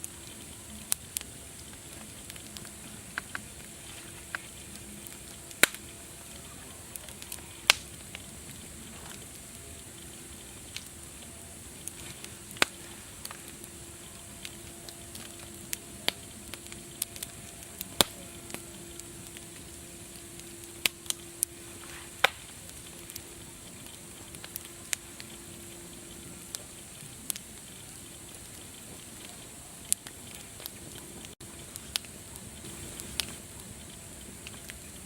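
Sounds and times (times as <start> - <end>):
faint steady hum: 0.0 - 35.0
wood fire crackling: 0.0 - 35.0.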